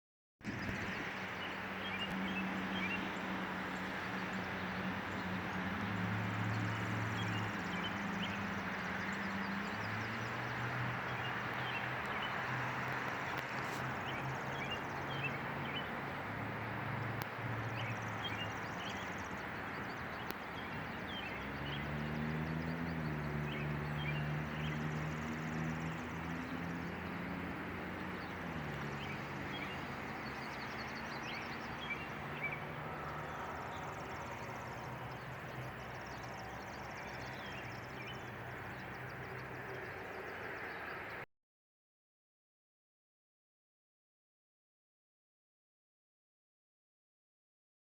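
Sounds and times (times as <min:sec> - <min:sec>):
passing vehicle engine hum: 0:00.5 - 0:41.3.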